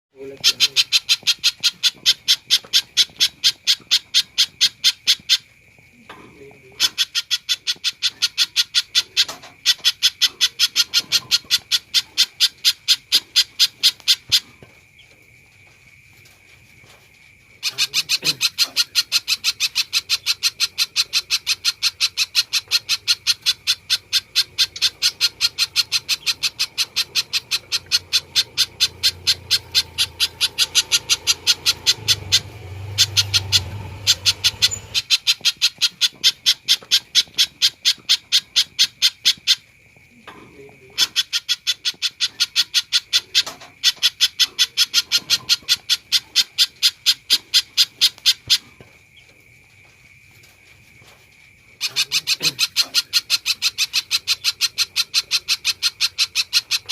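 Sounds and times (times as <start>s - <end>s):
bird calling sharp repeated notes: 0.2s - 5.5s, 6.8s - 14.6s, 17.6s - 39.7s, 41.0s - 48.7s, 51.8s - 56.9s.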